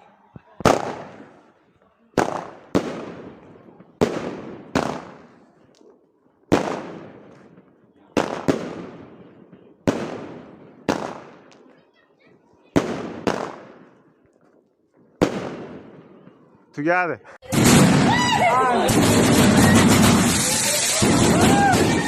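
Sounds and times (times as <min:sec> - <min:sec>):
fireworks bangs: 0:00.3 - 0:05.9, 0:06.5 - 0:11.8, 0:12.6 - 0:14.2, 0:15.0 - 0:16.4, 0:17.4 - 0:22.0.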